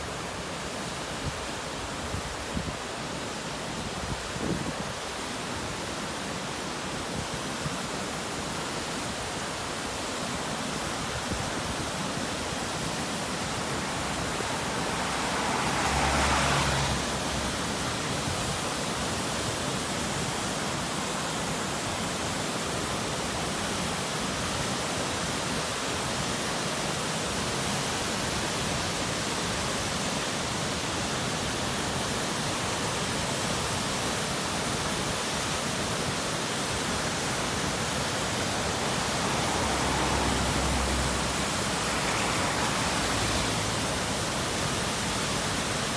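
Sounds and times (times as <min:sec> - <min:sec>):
waterfall rushing: 0:00.1 - 0:45.9.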